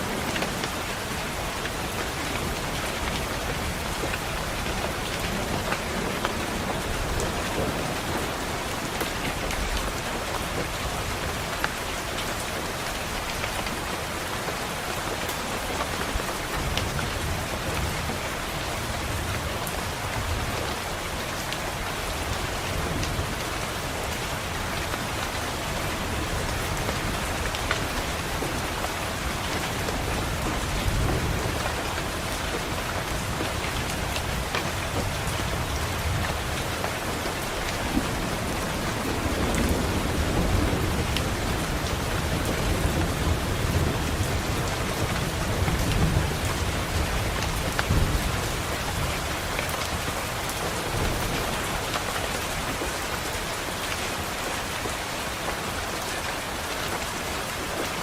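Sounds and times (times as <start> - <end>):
rain pattering on window: 0.0 - 58.0.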